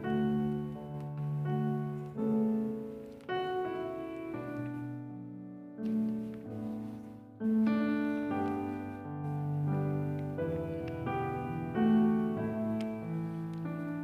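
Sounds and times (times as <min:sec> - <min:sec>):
solo piano chords: 0:00.0 - 0:14.0.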